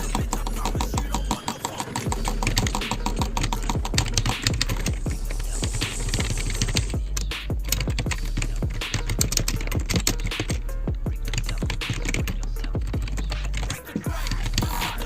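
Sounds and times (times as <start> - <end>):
keyboard typing clicks: 0.0 - 5.0, 5.9 - 15.0
music: 0.0 - 15.0.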